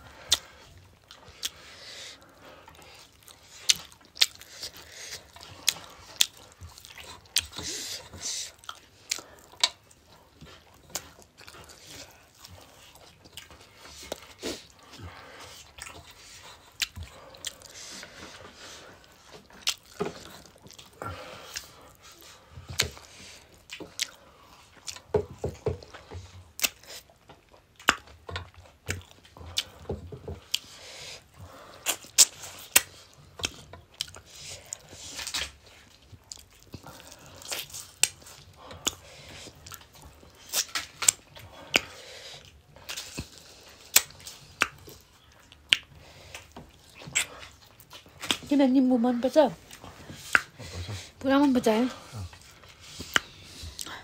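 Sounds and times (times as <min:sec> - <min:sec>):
chewing and lip-smacking: 0:00.1 - 0:48.5, 0:49.6 - 0:54.0.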